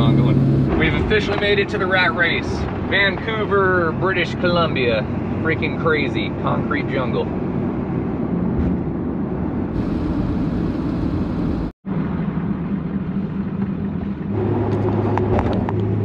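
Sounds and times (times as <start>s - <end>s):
diesel engine drone: 0.0s - 16.0s
road noise: 0.0s - 16.0s.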